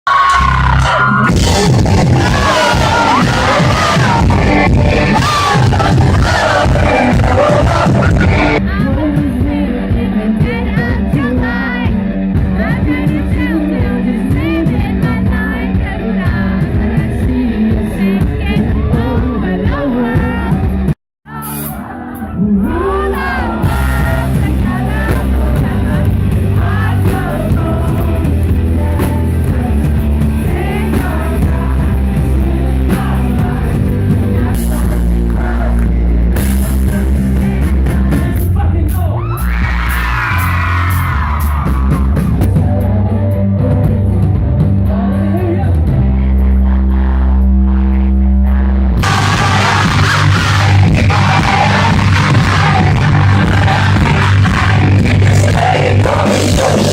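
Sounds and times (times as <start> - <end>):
rock song with singing: 0.1 - 56.9.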